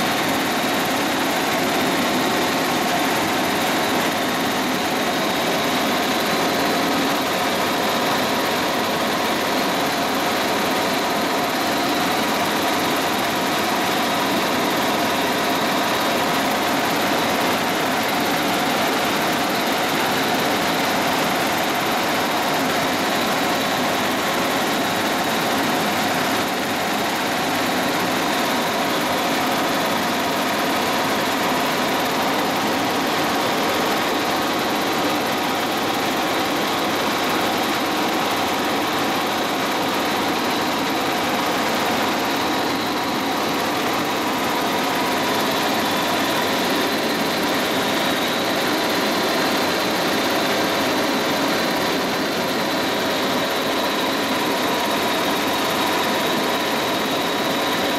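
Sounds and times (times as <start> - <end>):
helicopter engine and rotor drone: 0.0 - 57.9.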